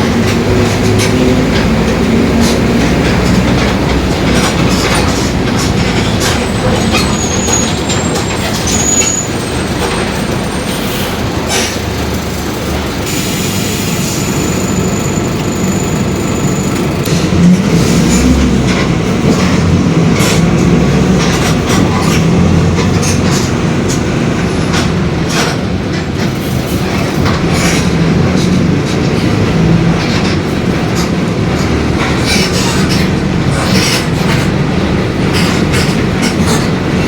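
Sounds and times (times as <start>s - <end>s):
rattles and clicks: 0.0s - 13.0s, 16.7s - 37.0s
bus drivetrain rumble: 0.0s - 37.0s.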